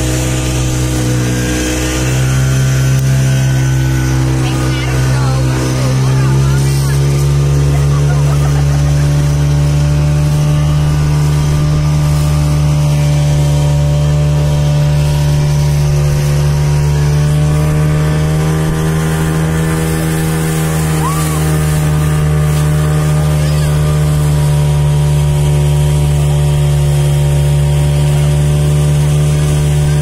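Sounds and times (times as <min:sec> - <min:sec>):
speedboat motor humming: 0:00.0 - 0:30.0
water rushing past hull: 0:00.0 - 0:30.0.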